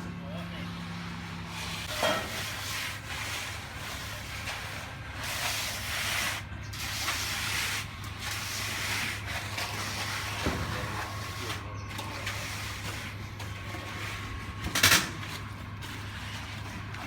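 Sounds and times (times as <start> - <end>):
low engine drone: 0.0 - 17.0
wet concrete rushing and scraping: 1.5 - 17.0.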